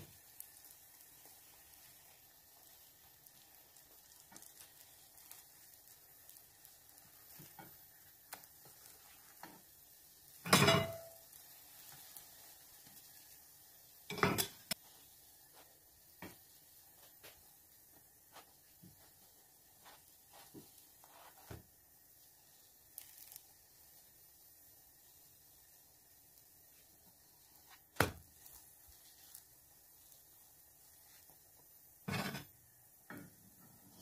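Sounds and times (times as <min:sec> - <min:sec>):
bread sizzling in a pan: 0:00.0 - 0:34.0.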